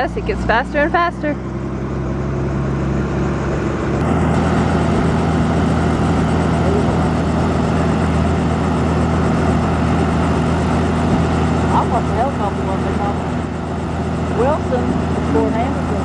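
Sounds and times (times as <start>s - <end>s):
helicopter rotor spinning up: 0.0s - 16.0s.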